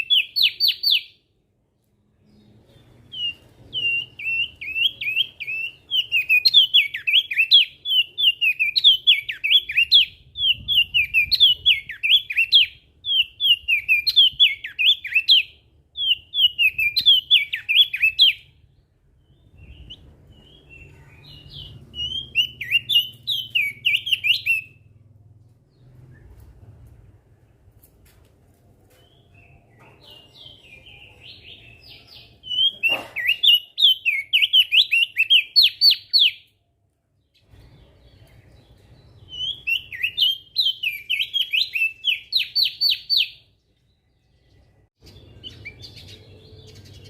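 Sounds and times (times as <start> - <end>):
bird singing whistled notes: 0.0 - 1.2, 2.2 - 24.9, 29.0 - 36.6, 37.4 - 43.6.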